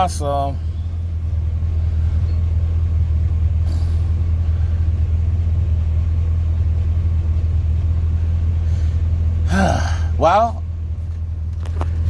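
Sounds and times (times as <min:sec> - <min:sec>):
engine running with low drone: 0:00.0 - 0:12.0.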